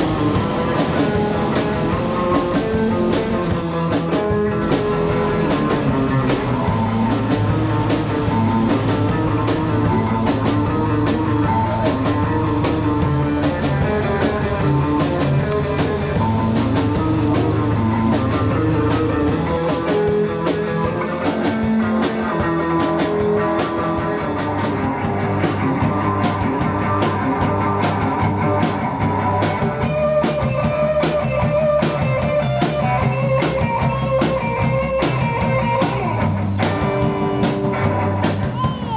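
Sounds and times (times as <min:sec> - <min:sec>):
rock music: 0:00.0 - 0:38.9.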